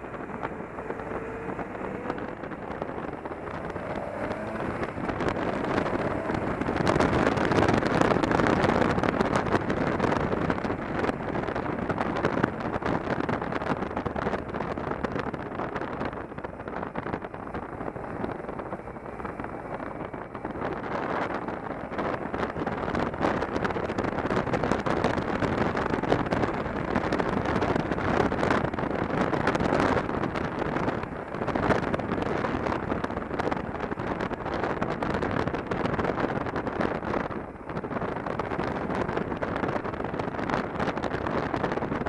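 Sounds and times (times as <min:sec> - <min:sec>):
motorcycle engine running: 0:00.0 - 0:42.0
wind rushing over microphone: 0:00.0 - 0:42.0.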